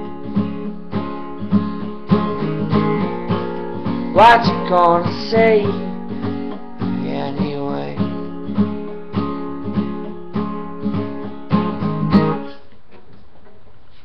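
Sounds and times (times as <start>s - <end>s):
acoustic guitar strumming chords: 0.0s - 12.6s
faint room noise: 0.0s - 14.0s.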